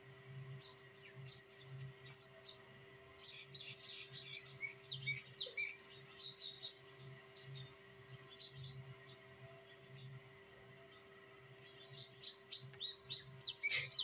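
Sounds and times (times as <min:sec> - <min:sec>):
faint steady hum: 0:00.0 - 0:14.0
small birds chirping: 0:00.0 - 0:14.0.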